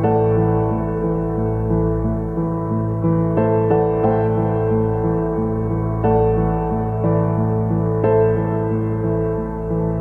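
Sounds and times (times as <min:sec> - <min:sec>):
soft ambient keyboard music: 0:00.0 - 0:10.0.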